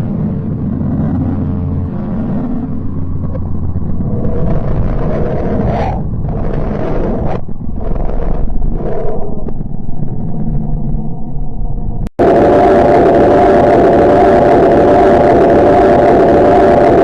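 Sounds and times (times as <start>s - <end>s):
deep rumble: 0.0s - 17.0s.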